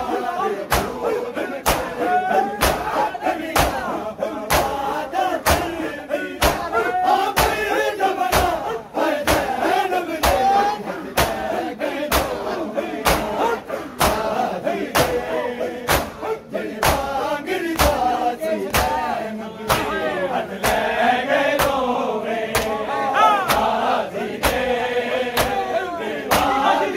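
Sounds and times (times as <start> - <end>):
crowd slapping chests in unison: 0.0 - 26.9
men chanting: 0.0 - 26.9.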